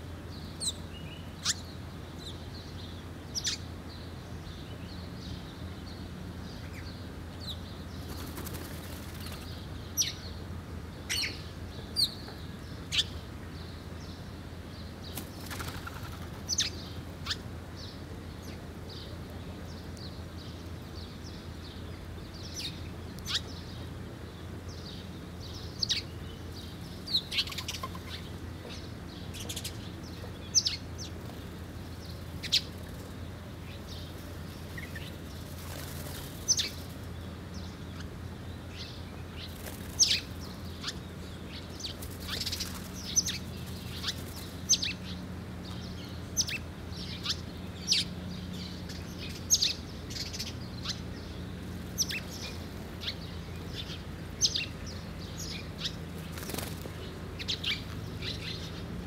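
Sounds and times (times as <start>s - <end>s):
birds chirping: 0.1s - 59.0s.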